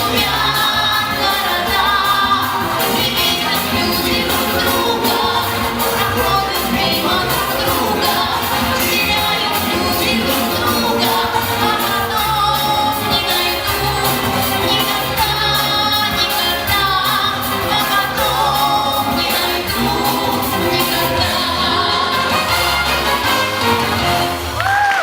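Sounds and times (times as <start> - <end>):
drum beat: 0.0 - 21.7
person singing: 0.0 - 22.9
pop music: 0.0 - 25.0.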